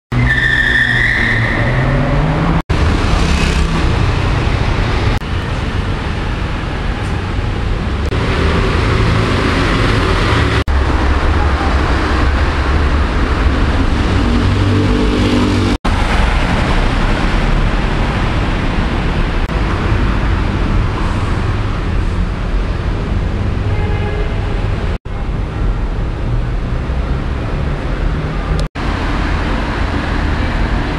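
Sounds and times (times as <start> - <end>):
city road traffic rumble: 0.1 - 30.9.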